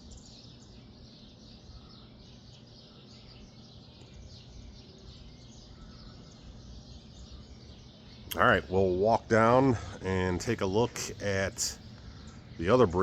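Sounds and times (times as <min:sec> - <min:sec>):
low background rumble: 0:00.0 - 0:13.0
small birds chirping: 0:00.0 - 0:13.0.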